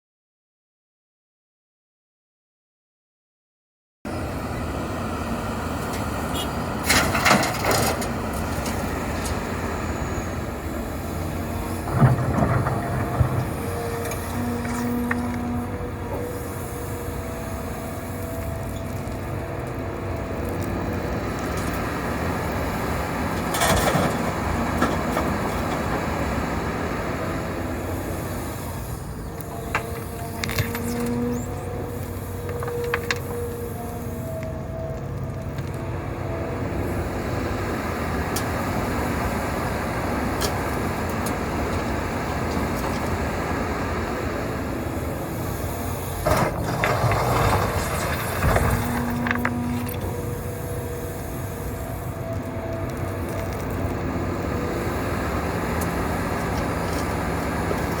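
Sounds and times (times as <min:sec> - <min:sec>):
hydraulic whine: 0:04.1 - 0:35.6, 0:38.2 - 0:58.0
excavator diesel engine: 0:04.1 - 0:58.0.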